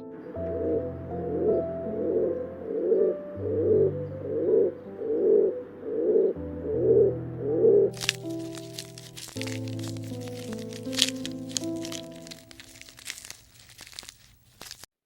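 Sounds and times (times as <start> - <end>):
background music held notes: 0.0 - 13.9.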